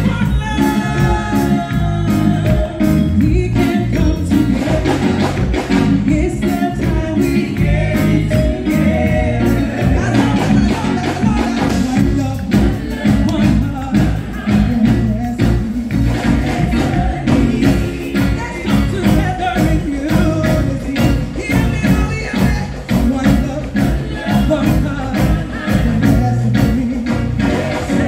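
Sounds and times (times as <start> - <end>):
group singing long notes: 0.0 - 20.6, 23.3 - 28.0
gospel band playing: 0.0 - 28.0.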